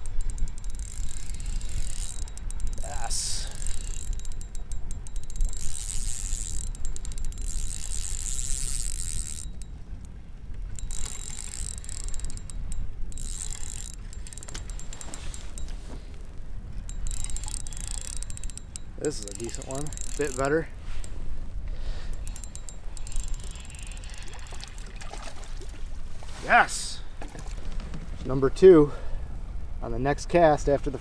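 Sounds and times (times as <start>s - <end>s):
fishing reel clicking: 0.0s - 25.6s.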